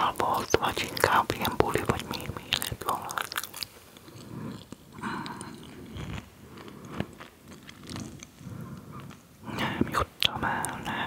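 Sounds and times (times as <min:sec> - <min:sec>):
crunchy snack chewing: 0:00.3 - 0:10.9.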